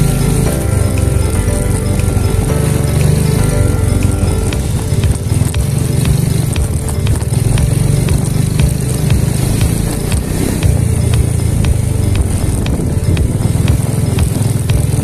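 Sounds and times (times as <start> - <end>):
low wind noise on microphone: 0.0 - 15.0
motorcycle engine drone: 0.0 - 15.0.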